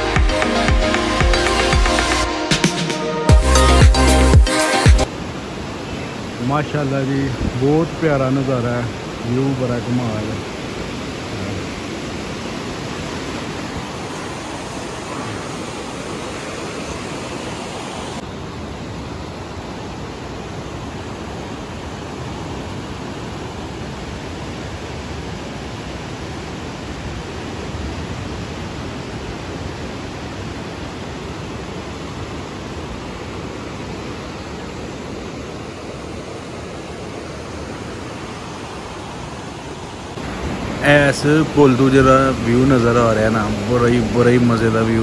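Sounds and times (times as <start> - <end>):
river rushing through rapids: 5.0 - 45.0.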